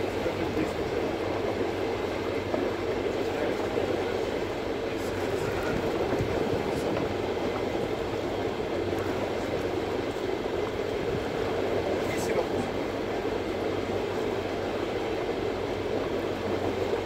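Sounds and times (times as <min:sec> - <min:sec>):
boat engine rumbling: 0:00.0 - 0:17.0
sea: 0:00.0 - 0:17.0
wind: 0:00.0 - 0:17.0.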